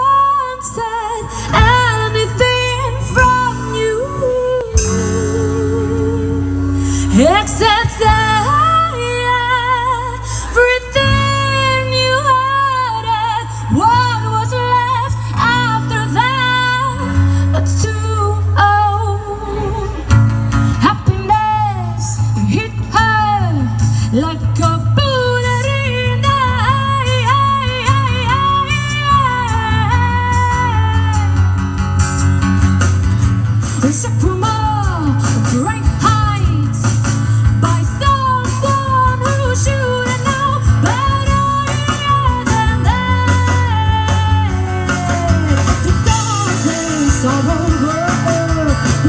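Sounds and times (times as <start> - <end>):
woman singing with vibrato: 0.0 - 31.6, 33.8 - 49.0
acoustic guitar: 0.0 - 49.0.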